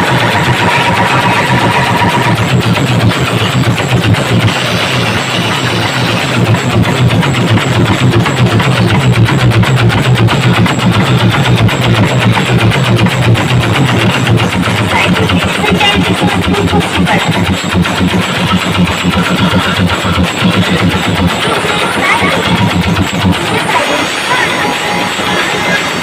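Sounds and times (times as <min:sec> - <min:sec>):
distorted pulsing bass rumble: 0:00.0 - 0:26.0.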